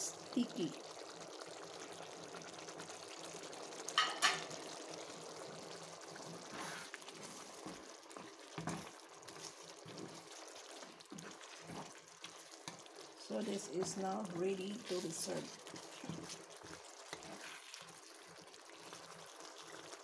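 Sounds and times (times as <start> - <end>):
liquid trickling into a pot: 0.0 - 20.0.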